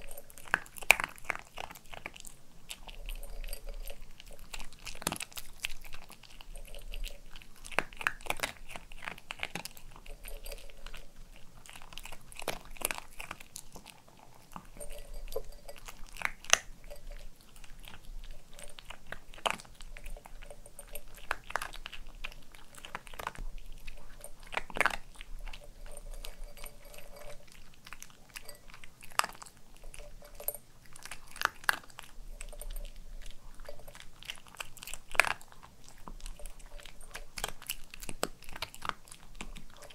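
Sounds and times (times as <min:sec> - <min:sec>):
dog crunching dry kibble: 0:00.0 - 0:39.9.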